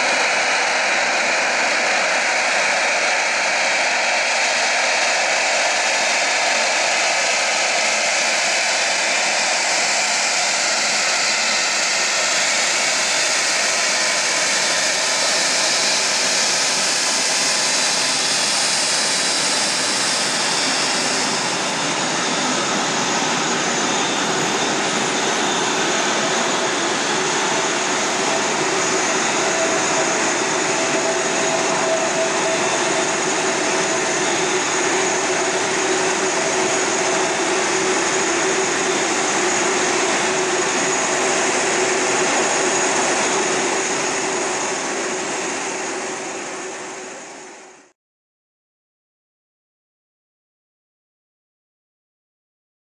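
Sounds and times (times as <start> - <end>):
jet engines whining: 0.0 - 47.7.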